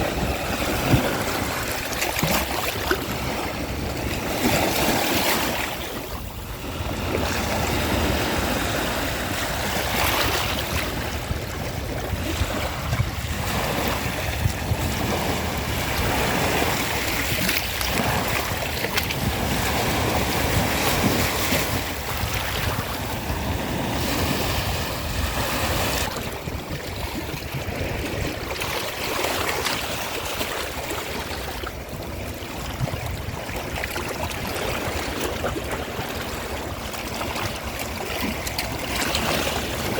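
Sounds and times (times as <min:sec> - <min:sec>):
ocean waves washing onto shore: 0:00.0 - 0:39.9
wind noise on microphone: 0:00.0 - 0:39.9.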